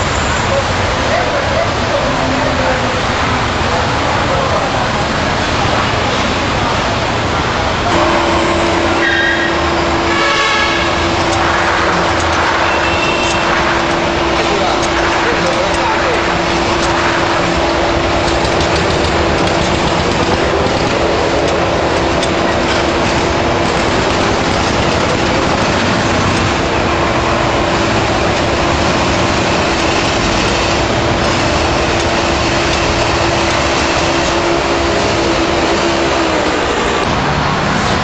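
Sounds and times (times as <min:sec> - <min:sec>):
thresher machine running: 0:00.0 - 0:38.0.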